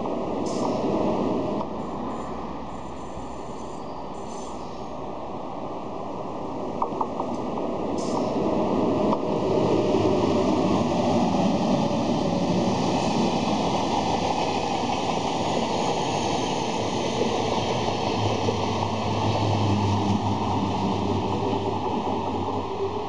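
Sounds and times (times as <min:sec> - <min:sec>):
electric train passing on rails: 0:00.0 - 0:23.0.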